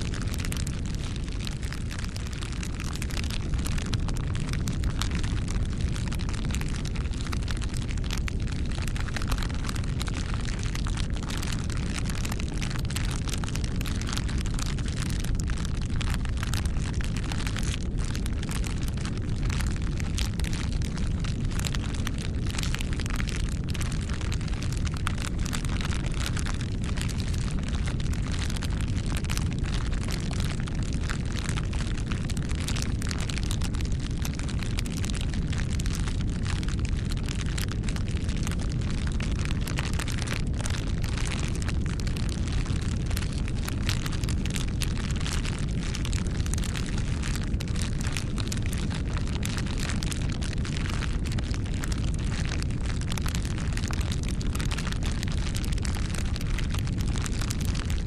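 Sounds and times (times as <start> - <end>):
fire crackling and popping: 0.0 - 58.0
rumble of flames: 0.0 - 58.0.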